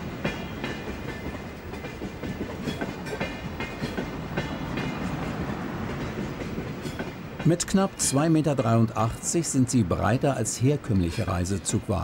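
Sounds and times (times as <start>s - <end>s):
train coaches rumbling past: 0.0s - 12.0s
wheels clicking over rail joints: 0.0s - 12.0s.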